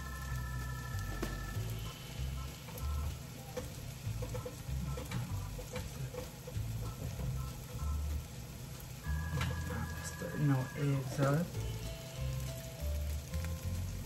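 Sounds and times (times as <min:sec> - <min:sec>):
food sizzling in a pan: 0:00.0 - 0:14.0
music with deep bass: 0:00.0 - 0:14.0.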